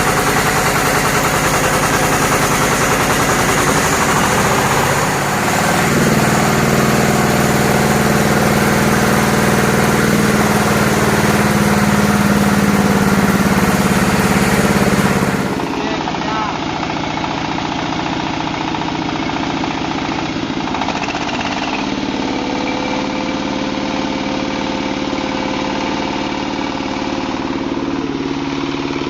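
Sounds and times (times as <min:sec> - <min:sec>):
small engine running steadily: 0:00.0 - 0:29.0.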